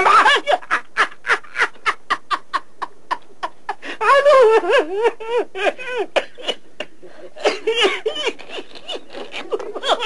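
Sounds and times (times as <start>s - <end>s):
man laughing: 0.0s - 10.0s.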